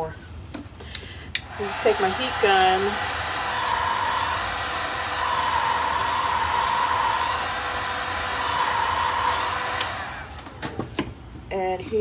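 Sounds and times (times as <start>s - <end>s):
heat gun fan whine: 0.9s - 11.4s.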